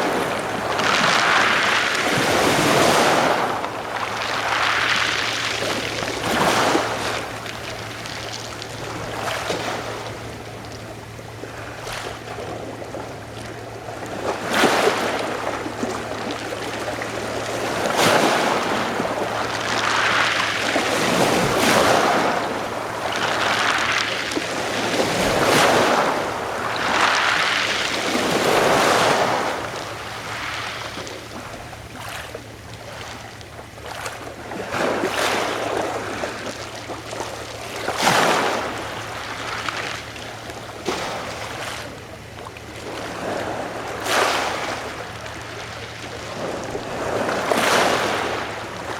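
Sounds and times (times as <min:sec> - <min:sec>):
sea waves breaking on shore: 0:00.0 - 0:48.9.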